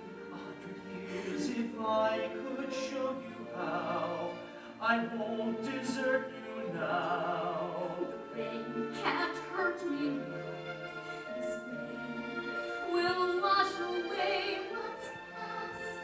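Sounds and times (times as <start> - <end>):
operatic singing with vibrato: 0.0 - 16.0
theatre orchestra: 0.0 - 16.0.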